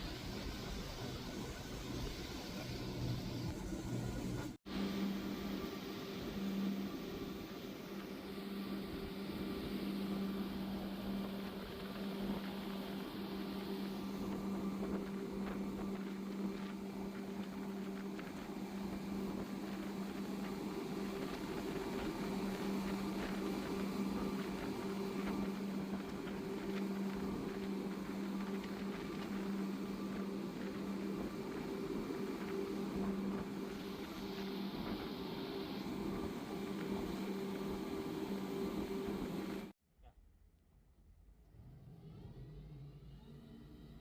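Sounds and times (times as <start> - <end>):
boat engine droning: 0.0 - 39.7, 41.6 - 44.0.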